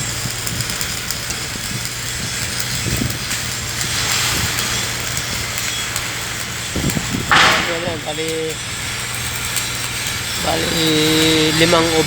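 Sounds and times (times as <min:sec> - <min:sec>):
faint crackles: 0:00.0 - 0:12.0
machinery hum: 0:02.2 - 0:12.0.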